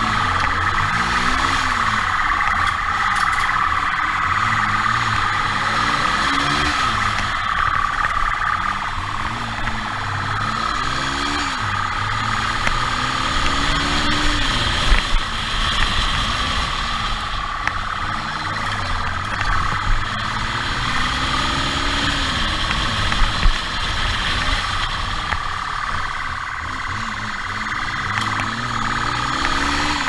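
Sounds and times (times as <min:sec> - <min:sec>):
motorcycle engine revving: 0:00.0 - 0:30.0
road and wind noise: 0:00.0 - 0:30.0.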